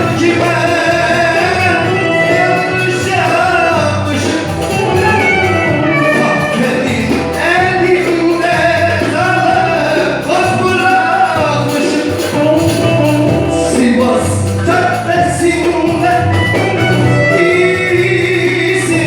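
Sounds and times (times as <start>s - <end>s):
song melody over low accompaniment: 0.0s - 19.0s.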